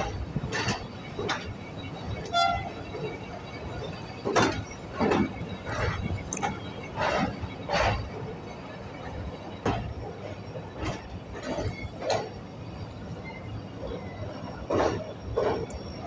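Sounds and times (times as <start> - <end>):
train knocks and clanks: 0.0 - 16.0
train wheels rumbling on rail: 0.0 - 16.0.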